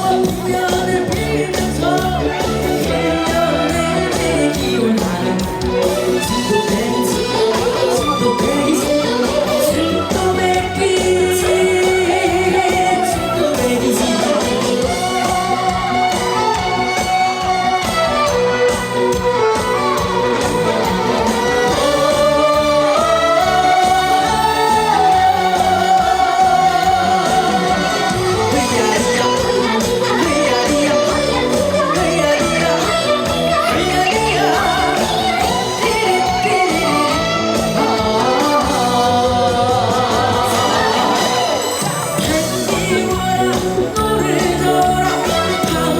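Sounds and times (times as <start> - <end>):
loud backing track: 0.0 - 45.9
person singing: 0.0 - 45.9.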